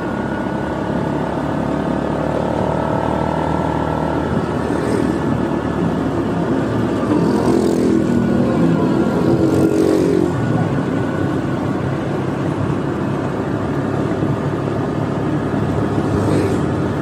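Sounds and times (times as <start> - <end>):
road noise: 0.0 - 17.0
scooter engine drone: 0.0 - 17.0.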